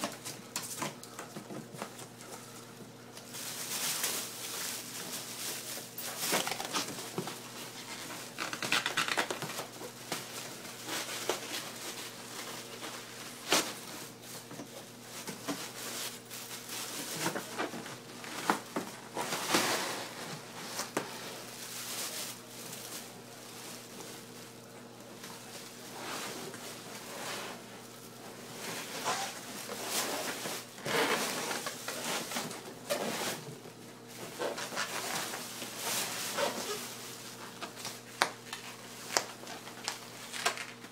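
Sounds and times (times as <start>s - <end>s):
faint steady hum: 0.0s - 40.9s
packaging rustling and crinkling: 0.0s - 40.9s.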